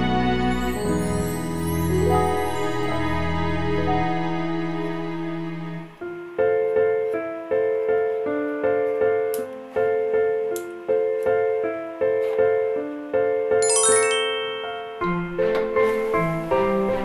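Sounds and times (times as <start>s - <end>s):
light keyboard tune: 0.0s - 17.0s.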